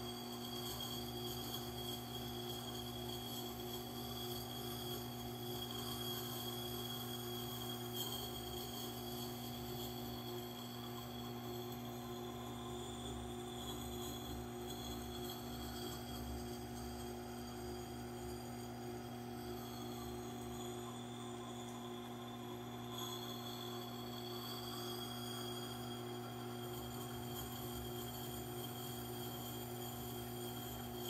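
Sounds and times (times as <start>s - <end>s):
sharpening machine humming: 0.0s - 31.0s.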